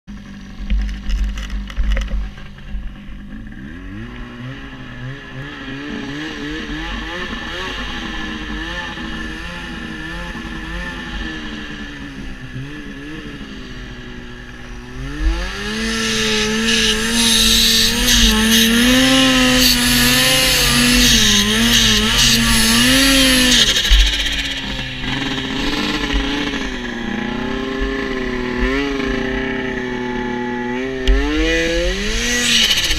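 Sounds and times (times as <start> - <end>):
snowmobile engine revving: 1.6 - 32.9.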